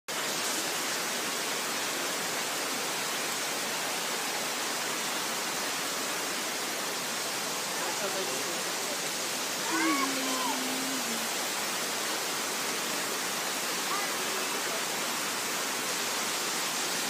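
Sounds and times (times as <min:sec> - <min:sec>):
waterfall rushing: 0:00.1 - 0:17.0.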